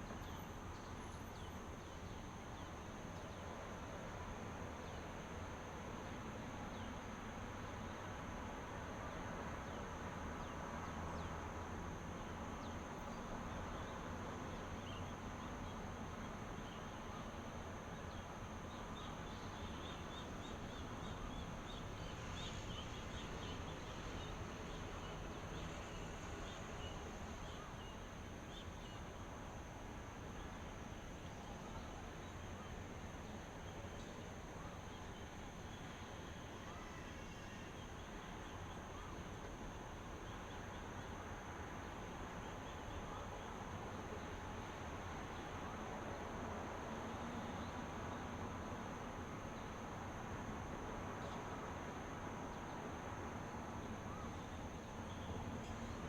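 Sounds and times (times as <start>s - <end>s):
background hiss: 0.0s - 56.0s
high insect drone: 6.0s - 56.0s.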